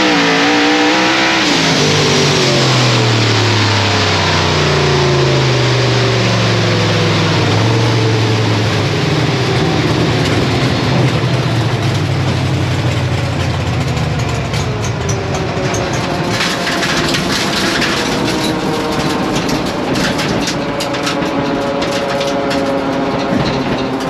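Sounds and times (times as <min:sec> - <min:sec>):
car engine heard from inside cabin: 0:00.0 - 0:24.0.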